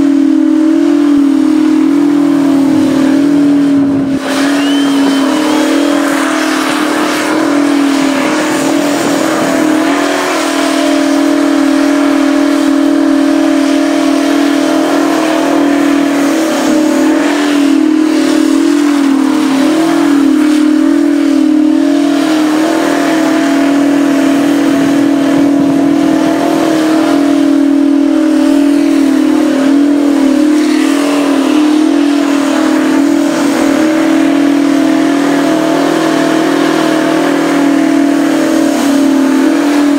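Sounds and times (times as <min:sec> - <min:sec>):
truck engine at high revs: 0:00.0 - 0:39.9.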